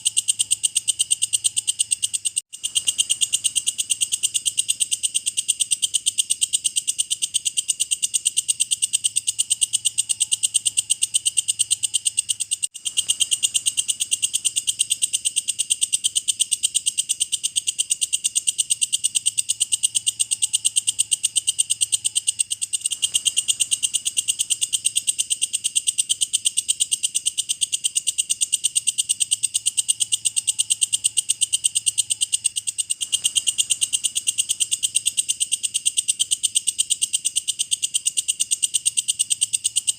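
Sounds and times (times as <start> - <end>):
katydid high-pitched ticking trill: 0.0 - 39.9.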